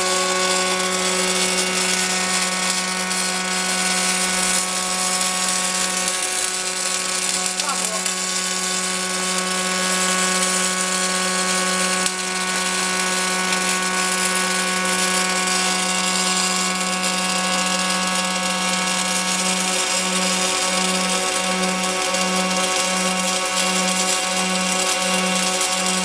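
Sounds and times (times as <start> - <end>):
welding arcs hissing: 0.0 - 26.0.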